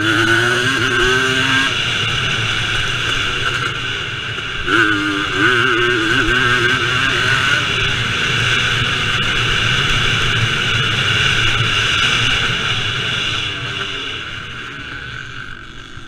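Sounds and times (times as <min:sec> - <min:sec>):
motorcycle engines revving high: 0:00.0 - 0:16.0.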